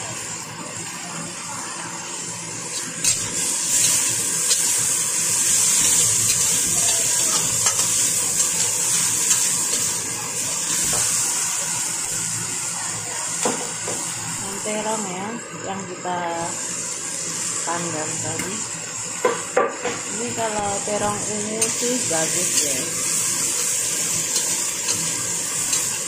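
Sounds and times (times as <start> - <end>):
vegetables sizzling in a wok: 0.0 - 26.0.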